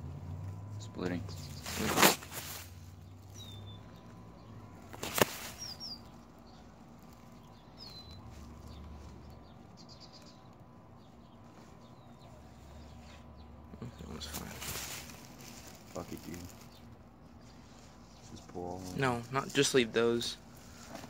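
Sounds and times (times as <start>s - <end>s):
small bird chirping: 0.4s - 19.7s.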